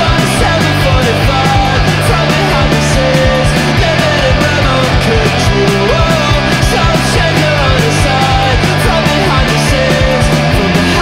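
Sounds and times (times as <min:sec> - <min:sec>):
person singing: 0:00.0 - 0:11.0
punk rock song: 0:00.0 - 0:11.0.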